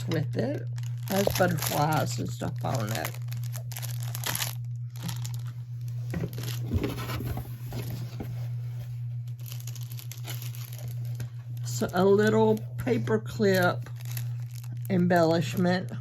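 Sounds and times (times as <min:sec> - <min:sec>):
paper crinkling and rustling: 0:00.0 - 0:15.8
steady low hum: 0:00.0 - 0:16.0.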